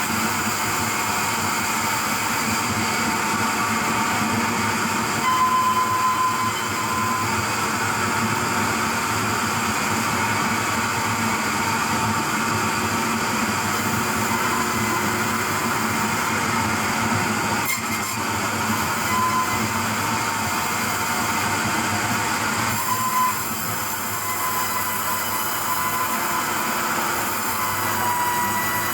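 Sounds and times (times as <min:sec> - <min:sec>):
heavy machinery running: 0:00.0 - 0:28.9.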